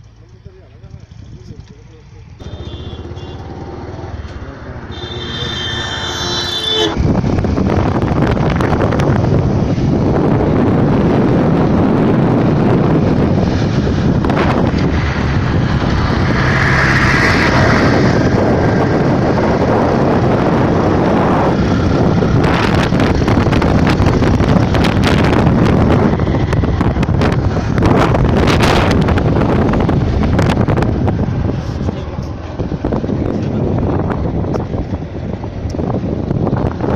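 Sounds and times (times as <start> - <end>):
vehicle running: 0.0 - 36.9
wind buffeting microphone: 6.8 - 36.9.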